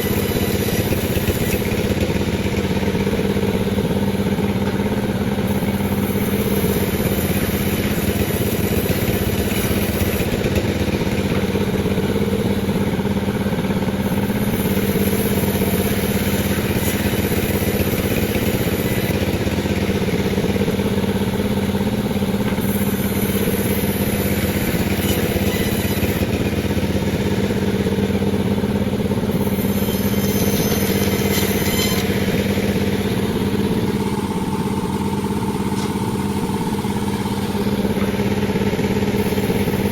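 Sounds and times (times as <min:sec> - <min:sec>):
chainsaw sawing through a log: 0:00.0 - 0:39.9.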